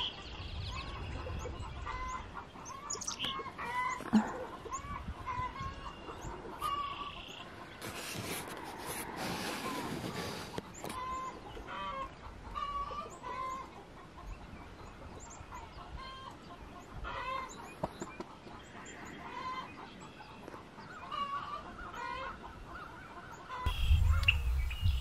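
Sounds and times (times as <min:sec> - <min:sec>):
hens clucking and cackling: 0:00.0 - 0:25.0.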